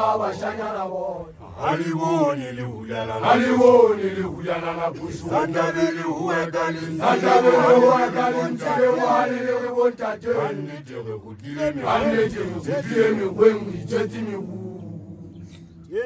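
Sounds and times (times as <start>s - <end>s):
men chanting: 0.0s - 16.0s.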